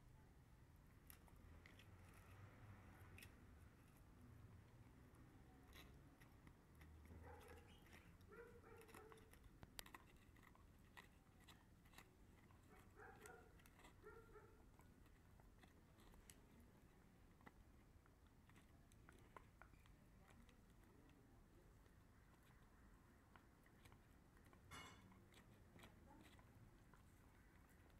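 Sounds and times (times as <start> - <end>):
dog gnawing a chew bone: 0.8 - 27.9.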